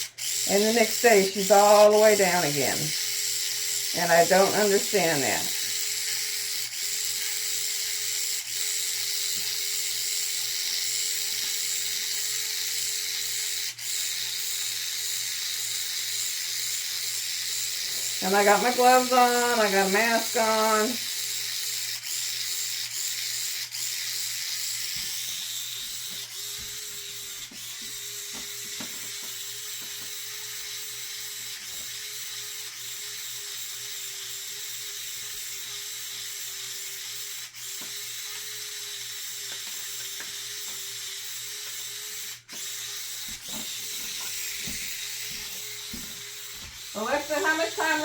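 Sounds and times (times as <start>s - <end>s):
electric mixer motor whine: 0.0s - 48.0s.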